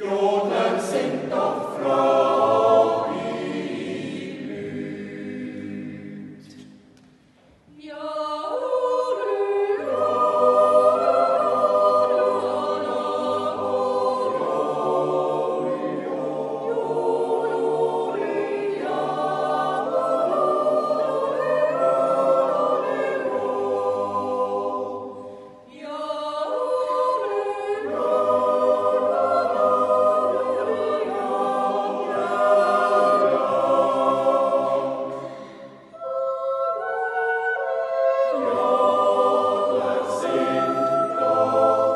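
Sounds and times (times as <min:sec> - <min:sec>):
yodel choir singing a cappella: 0:00.0 - 0:06.9, 0:07.7 - 0:41.9.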